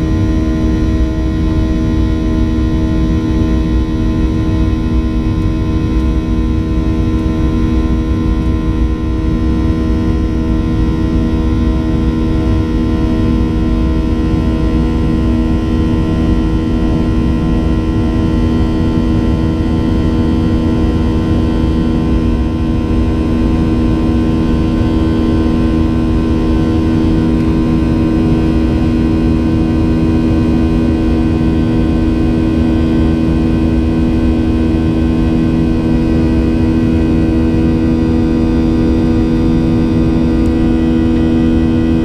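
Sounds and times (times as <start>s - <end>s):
jet engine drone in cabin: 0.0s - 42.0s.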